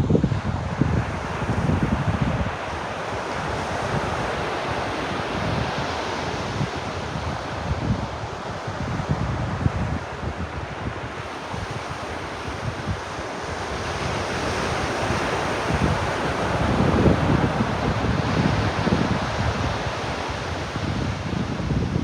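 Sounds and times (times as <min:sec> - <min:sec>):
wind buffeting microphone: 0:00.0 - 0:22.0
ocean waves breaking: 0:00.8 - 0:09.1, 0:09.7 - 0:22.0.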